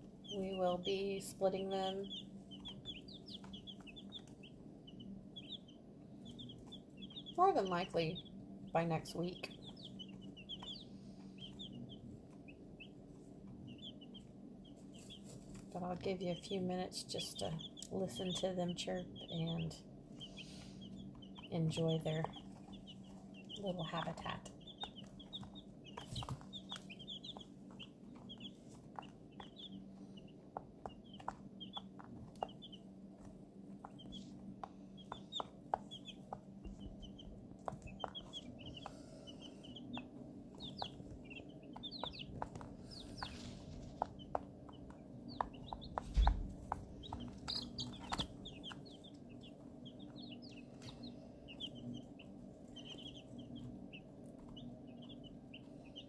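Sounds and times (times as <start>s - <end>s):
chicks peeping: 0.0s - 56.0s
steady low hum: 0.0s - 56.0s.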